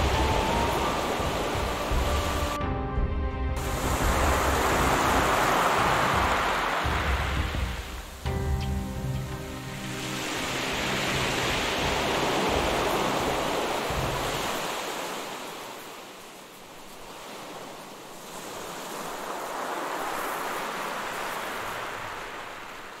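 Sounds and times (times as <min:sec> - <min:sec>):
ocean waves washing in: 0:00.0 - 0:02.6, 0:03.6 - 0:23.0.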